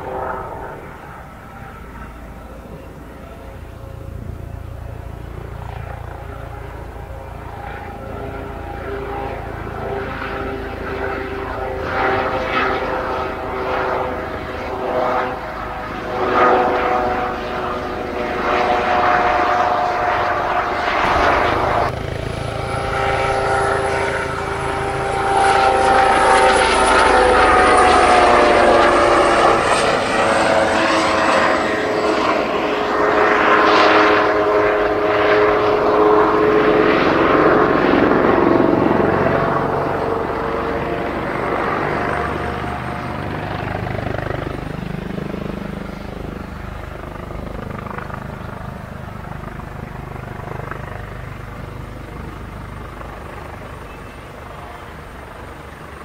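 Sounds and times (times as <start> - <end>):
helicopter engine whine: 0.0 - 56.0
helicopter rotor blades: 0.0 - 56.0.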